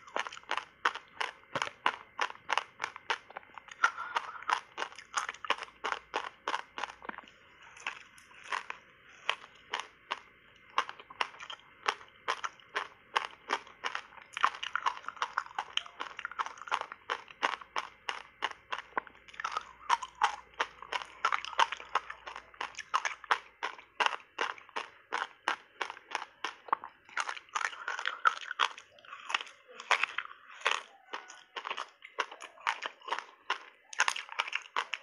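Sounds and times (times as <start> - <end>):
teeth crunching ice: 0.0 - 35.0.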